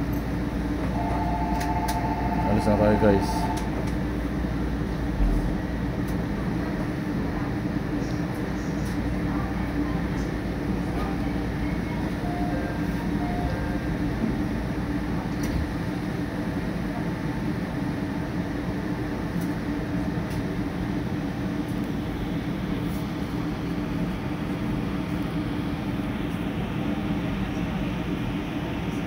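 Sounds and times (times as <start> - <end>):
train carriage hum: 0.0 - 29.0.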